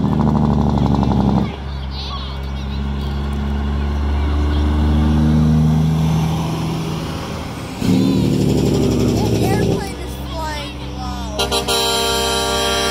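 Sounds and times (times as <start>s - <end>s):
truck diesel engine driving past: 0.0s - 12.9s.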